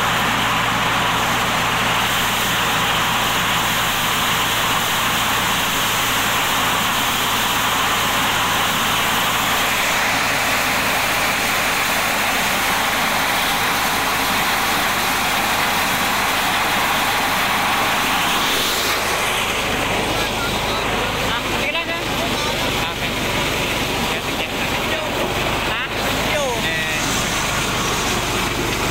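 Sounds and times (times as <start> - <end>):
machine drive humming: 0.0 - 28.9.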